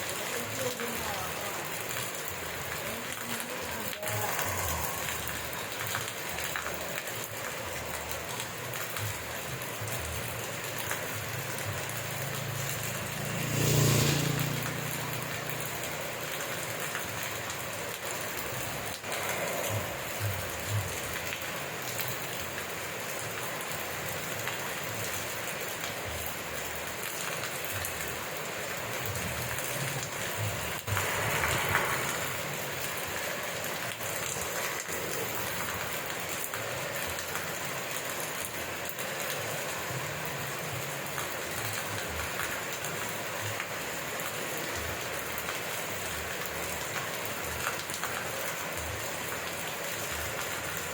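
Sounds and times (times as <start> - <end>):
rain pattering on surfaces: 0.0 - 50.9.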